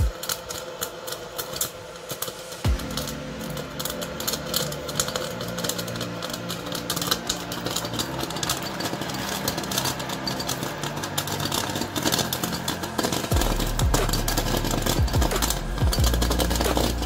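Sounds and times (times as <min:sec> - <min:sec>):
popcorn kernels popping: 0:00.0 - 0:17.0
popcorn popper fan whirring: 0:00.0 - 0:17.0.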